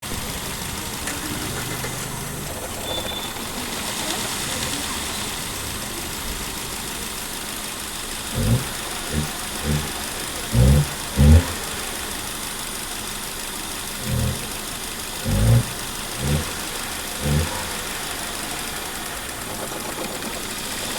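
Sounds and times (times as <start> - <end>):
engine misfire thumps: 0.0 - 13.2, 13.8 - 20.9
car engine idling: 0.0 - 20.9.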